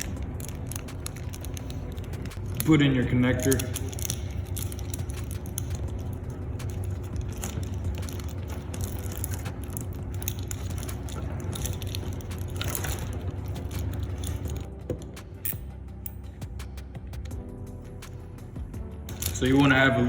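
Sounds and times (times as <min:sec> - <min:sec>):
metallic clicks and scraping: 0:00.0 - 0:19.8
steady low hum: 0:00.0 - 0:20.0.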